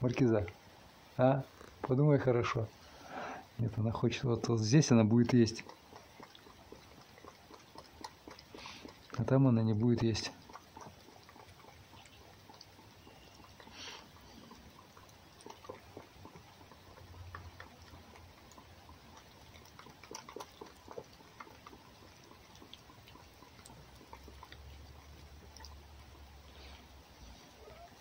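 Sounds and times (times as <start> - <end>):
fox lapping and chewing: 0.0 - 28.0.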